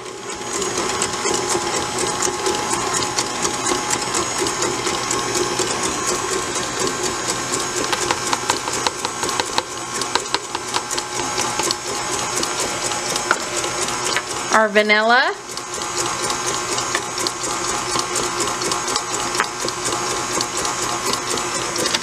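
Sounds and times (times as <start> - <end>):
stand mixer motor whirring: 0.0 - 22.0
whisk clicking and ticking: 0.3 - 22.0.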